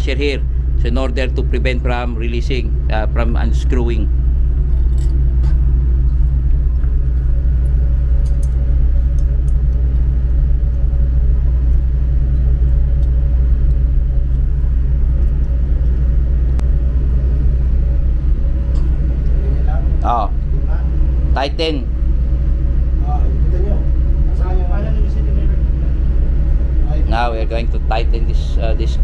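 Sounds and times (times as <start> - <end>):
ship engine drone: 0.0 - 29.0.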